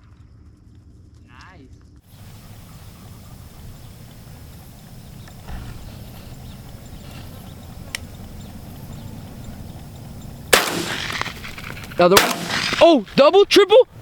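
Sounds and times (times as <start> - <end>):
wind buffeting microphone: 2.1 - 14.0.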